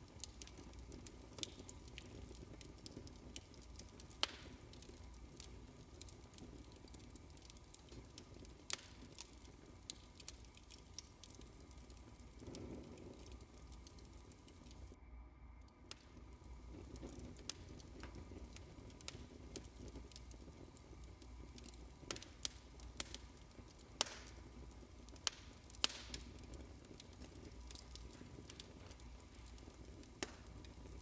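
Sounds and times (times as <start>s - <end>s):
wood fire crackling: 0.0s - 15.0s, 15.7s - 31.0s.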